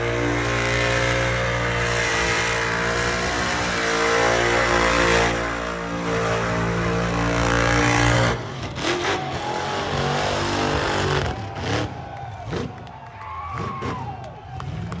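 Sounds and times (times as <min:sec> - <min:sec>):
car engine revving high: 0:00.0 - 0:12.8.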